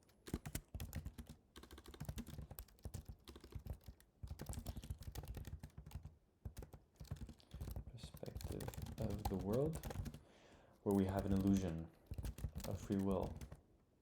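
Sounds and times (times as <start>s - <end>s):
computer keyboard typing: 0.1s - 10.2s, 10.9s - 13.6s.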